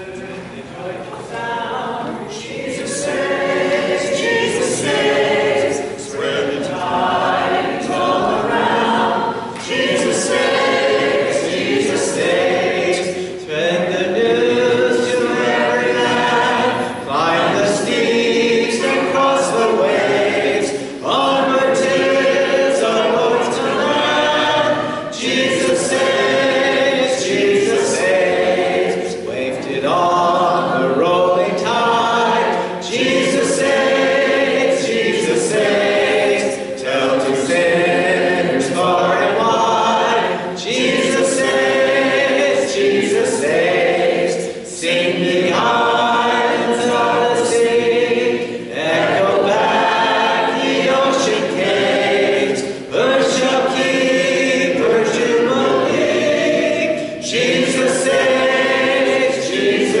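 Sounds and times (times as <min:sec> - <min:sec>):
congregation singing a hymn: 0:00.0 - 1:00.0.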